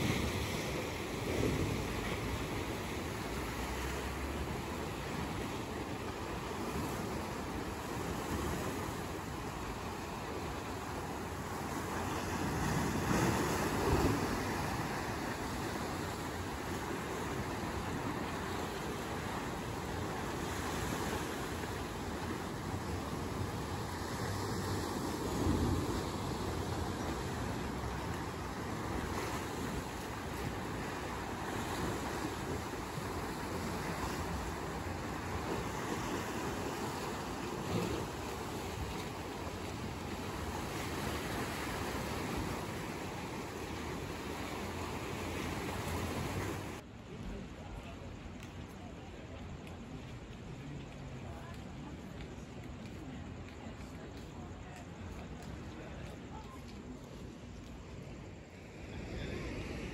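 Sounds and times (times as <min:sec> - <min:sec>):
sea surf washing: 0:00.0 - 0:59.9.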